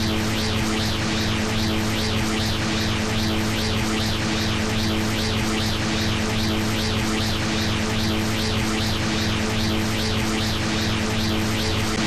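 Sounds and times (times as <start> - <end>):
electronic hum: 0.0 - 12.0.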